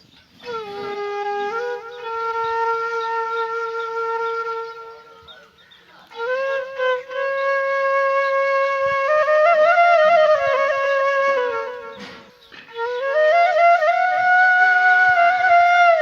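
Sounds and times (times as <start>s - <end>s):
solo flute melody: 0.4s - 16.0s.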